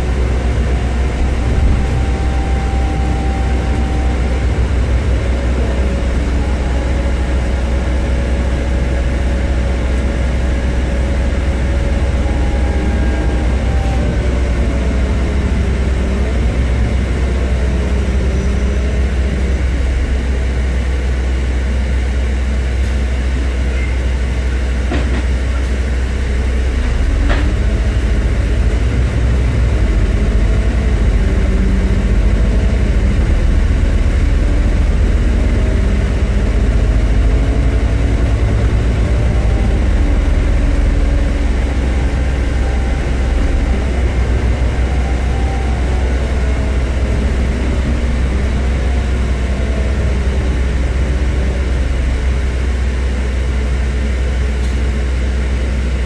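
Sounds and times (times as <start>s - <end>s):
bus engine rumble with whine: 0.0s - 56.0s.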